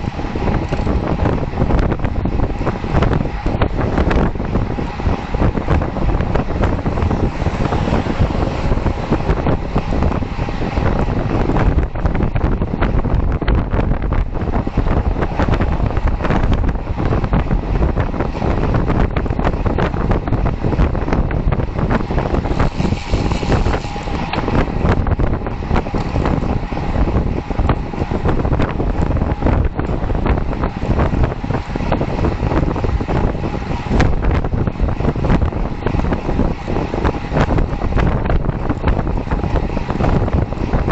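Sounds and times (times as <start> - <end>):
low road rumble: 0.0 - 40.9
wind buffeting microphone: 0.0 - 40.9.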